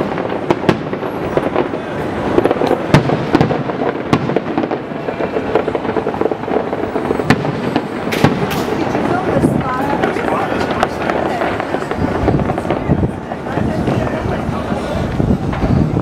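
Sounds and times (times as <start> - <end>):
firework bangs: 0.0 - 16.0
fireworks bursts and crackle: 0.0 - 16.0.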